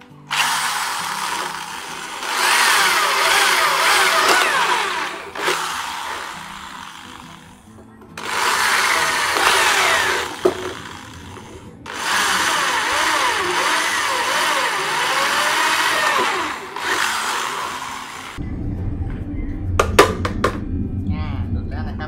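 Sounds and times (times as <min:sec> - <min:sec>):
electric drill boring wood: 0:00.0 - 0:07.6, 0:08.2 - 0:18.4.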